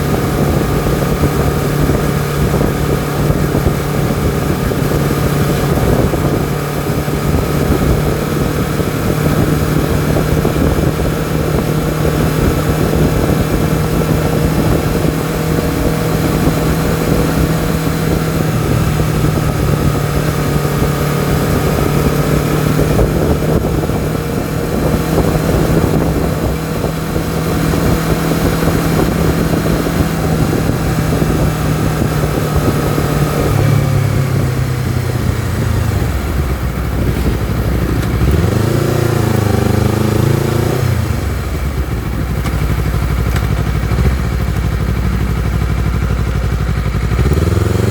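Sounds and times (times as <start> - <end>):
motorcycle engine and exhaust running: 0.0 - 47.9
wind noise on microphone: 0.0 - 47.9.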